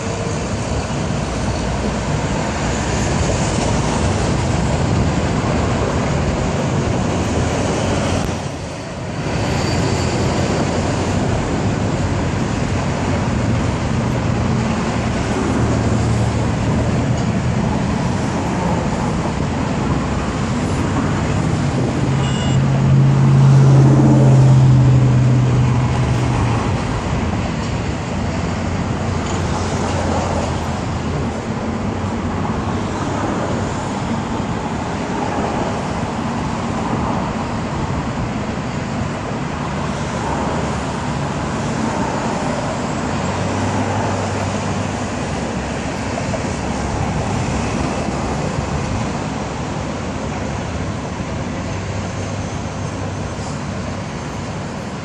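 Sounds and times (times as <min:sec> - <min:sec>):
road traffic passing: 0:00.0 - 0:55.0
vehicle engine drone passing: 0:00.0 - 0:55.0.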